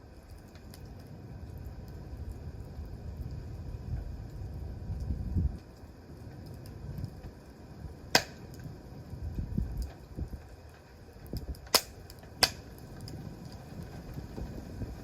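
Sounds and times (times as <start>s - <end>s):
burning wood popping: 0.0s - 15.0s
campfire crackling: 0.0s - 15.0s
wind rumble on microphone: 0.0s - 15.0s.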